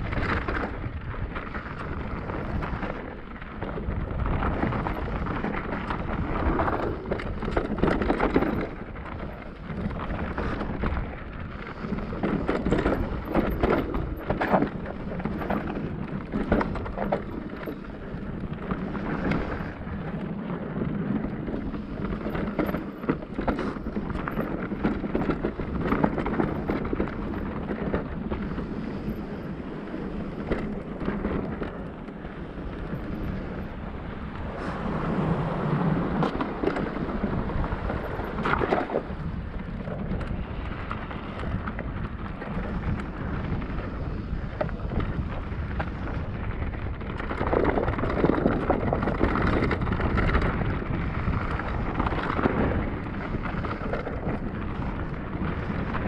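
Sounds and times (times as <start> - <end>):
bike rattling: 0.0 - 56.0
wind on microphone: 0.0 - 56.0.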